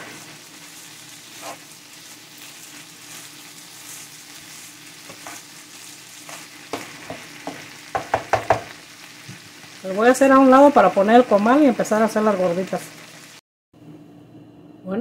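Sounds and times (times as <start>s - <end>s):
potatoes sizzling in oil: 0.0s - 13.4s.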